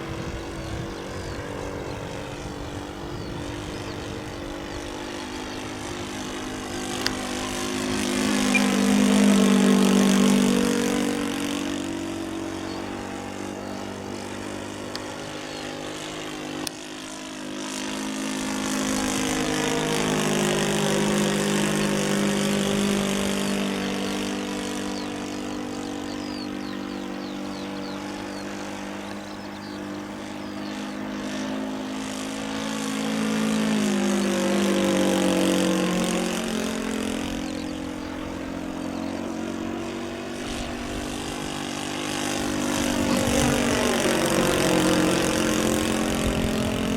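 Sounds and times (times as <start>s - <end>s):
model airplane propeller drone: 0.0s - 46.9s.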